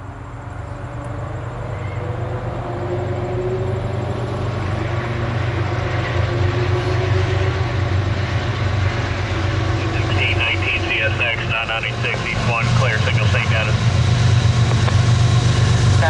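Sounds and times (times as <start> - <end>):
locomotive engine drone: 0.0 - 16.0.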